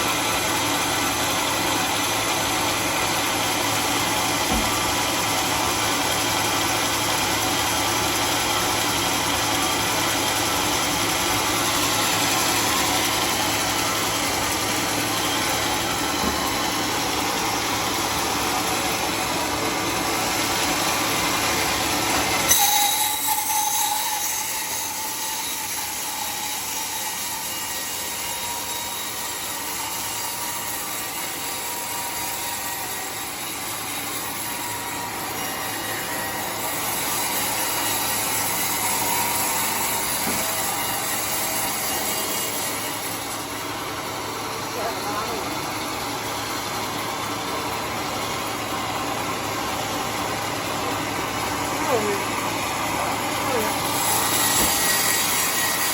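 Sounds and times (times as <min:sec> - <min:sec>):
circular saw cutting log: 0:00.0 - 0:55.9.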